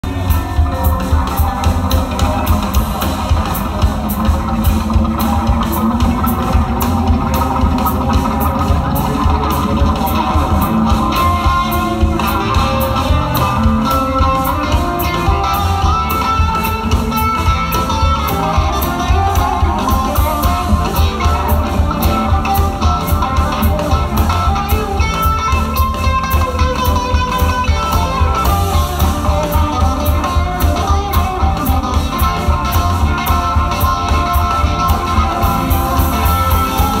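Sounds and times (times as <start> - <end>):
drums keeping a beat: 0.0 - 37.0
electric bass: 0.0 - 37.0
electric guitar: 0.0 - 37.0.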